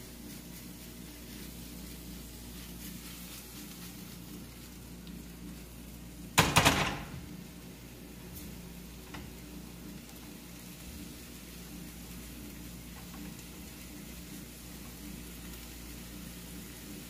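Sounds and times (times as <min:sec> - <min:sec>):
mushrooms sizzling in frying pan: 0:00.0 - 0:17.0.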